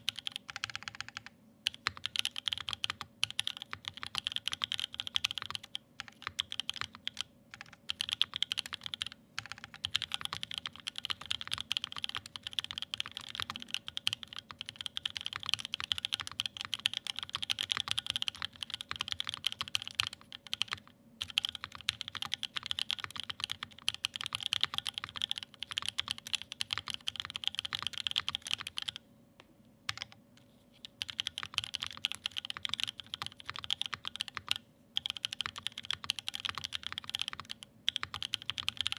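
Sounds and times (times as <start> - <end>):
mechanical keyboard typing: 0.0 - 29.0, 29.9 - 30.2, 30.8 - 38.9.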